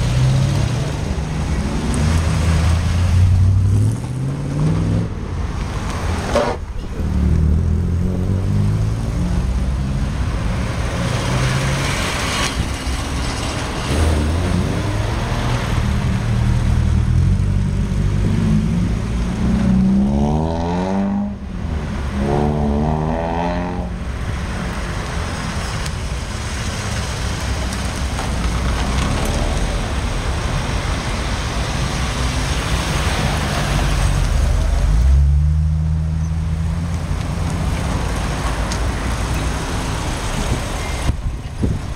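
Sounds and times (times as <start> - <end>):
car engines revving past: 0.0 - 41.9.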